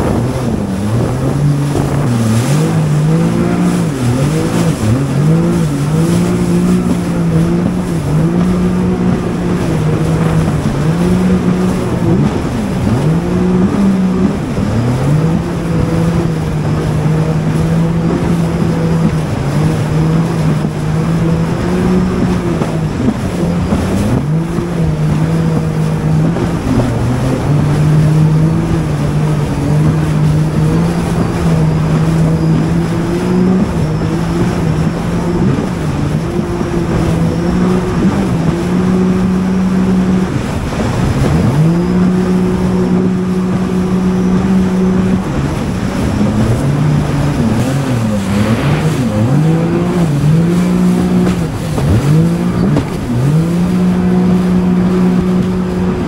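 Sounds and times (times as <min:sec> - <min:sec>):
jet ski engine revving: 0:00.0 - 0:56.0
rushing water: 0:00.0 - 0:56.0
wind noise: 0:00.0 - 0:56.0.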